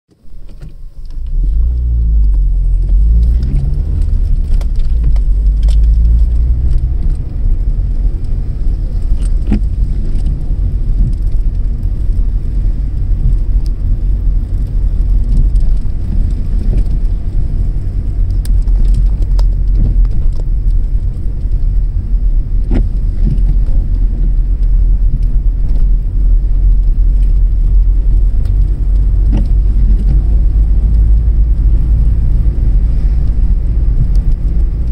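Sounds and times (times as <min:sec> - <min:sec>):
car engine and tyres rumbling: 0:00.1 - 0:34.9
light clicks and rattles: 0:02.2 - 0:34.9.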